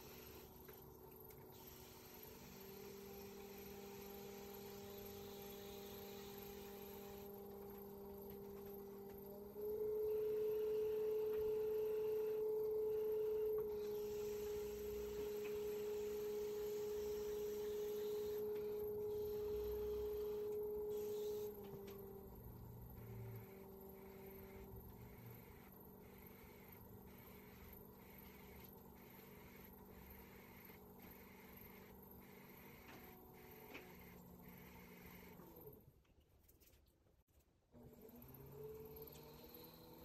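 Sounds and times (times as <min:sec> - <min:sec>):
potter's wheel motor humming: 0:00.0 - 0:35.8, 0:37.8 - 0:40.0.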